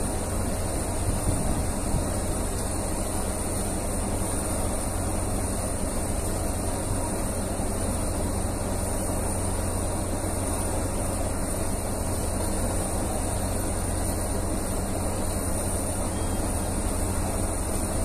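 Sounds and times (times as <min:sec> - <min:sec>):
heavy equipment engine rumbling: 0:00.0 - 0:18.0.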